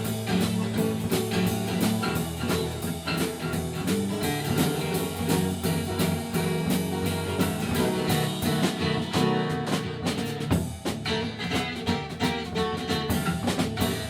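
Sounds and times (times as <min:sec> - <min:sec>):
bass: 0:00.0 - 0:14.0
drum kit beat: 0:00.0 - 0:14.0
electric guitar: 0:00.0 - 0:14.0.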